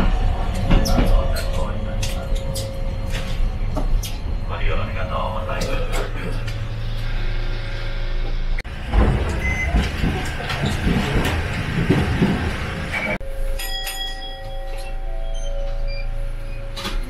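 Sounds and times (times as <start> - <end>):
streetcar rumbling on rails: 0.0 - 13.8, 14.6 - 17.0.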